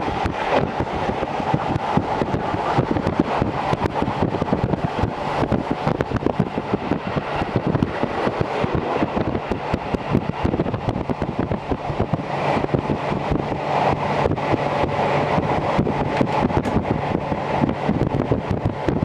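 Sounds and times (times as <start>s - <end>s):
rushing air: 0.0s - 19.0s
train wheels rumbling on rail: 0.0s - 19.0s.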